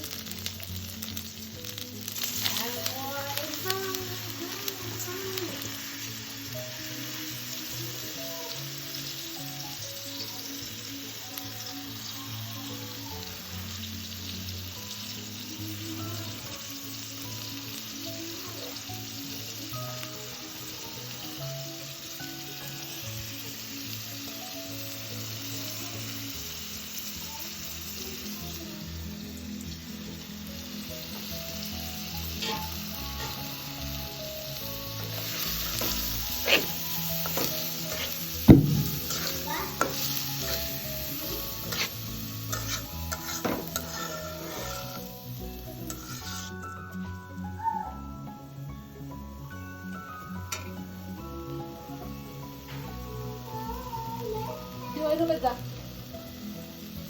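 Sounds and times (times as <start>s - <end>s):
food sizzling in a pan: 0.0s - 57.0s
soft background music: 0.0s - 57.0s.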